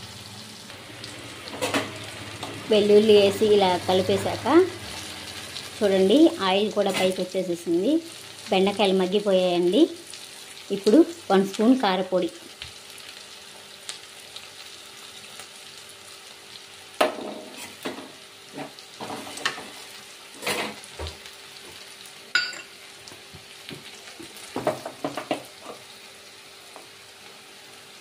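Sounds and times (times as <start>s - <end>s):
okra sizzling in oil: 0.0s - 28.0s.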